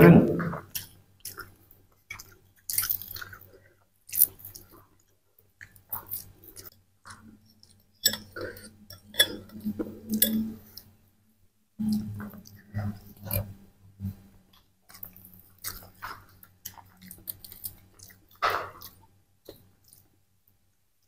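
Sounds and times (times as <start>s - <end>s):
people chewing food: 0.0s - 11.2s, 11.8s - 21.0s.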